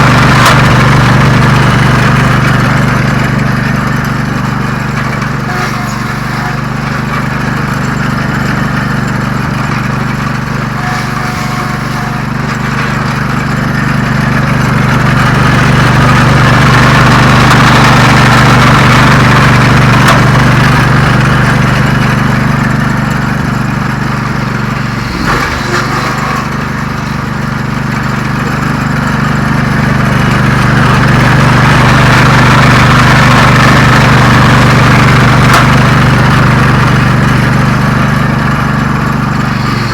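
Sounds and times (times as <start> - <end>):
saw disc cutting wood: 0.0 - 39.9
sawmill engine running: 0.0 - 39.9.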